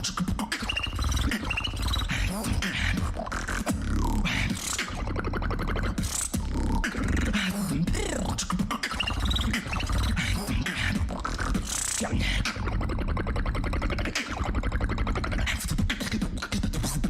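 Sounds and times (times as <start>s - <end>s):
beatboxing: 0.0s - 17.0s.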